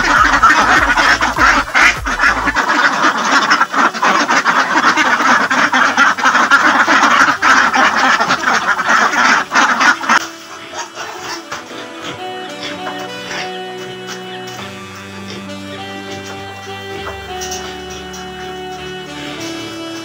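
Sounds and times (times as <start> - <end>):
flock of ducks quacking: 0.0 - 20.0.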